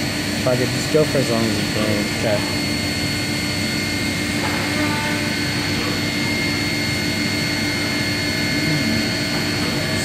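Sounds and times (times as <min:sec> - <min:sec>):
machine hum: 0:00.0 - 0:10.0
spindle whine: 0:00.0 - 0:10.0.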